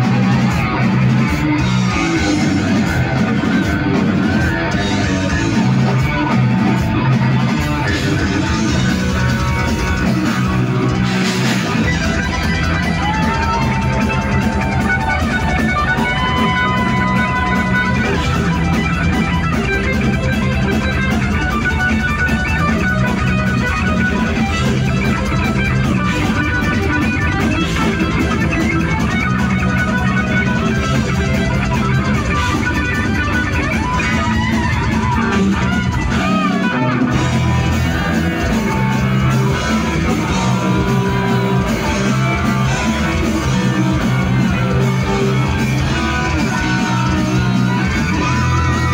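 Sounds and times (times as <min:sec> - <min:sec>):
heavy metal band playing: 0:00.0 - 0:48.9
lead guitar sustained notes: 0:00.0 - 0:48.9.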